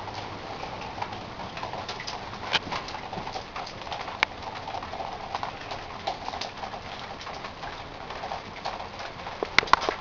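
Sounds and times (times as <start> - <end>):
running water: 0.0 - 10.0
water drops splashing into buckets: 0.0 - 10.0.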